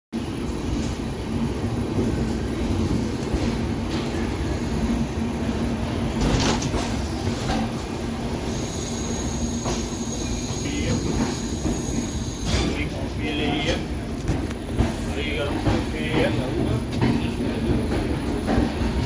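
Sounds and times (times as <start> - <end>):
train rumbling on rails: 0.1 - 19.0.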